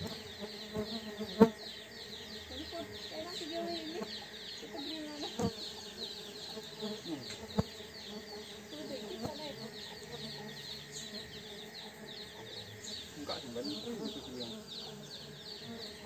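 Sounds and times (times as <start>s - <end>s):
insects chorus: 0.0s - 16.0s
chickens clucking: 2.8s - 15.7s.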